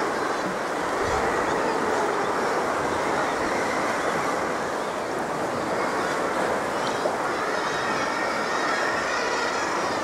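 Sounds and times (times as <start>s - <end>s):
sea water lapping around kayak: 0.0s - 10.0s.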